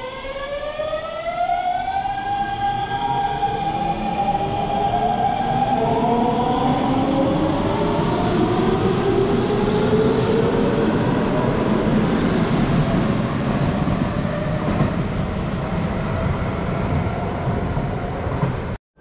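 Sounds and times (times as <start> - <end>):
train wheels rumbling on rails: 3.1 - 18.8.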